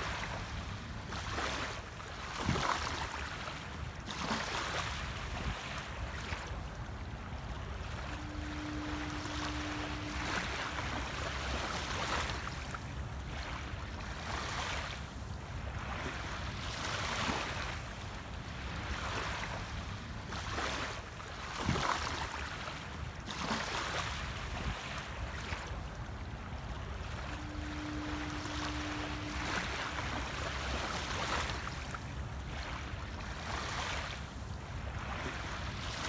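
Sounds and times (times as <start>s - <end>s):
small waves lapping on sand: 0.0s - 36.0s.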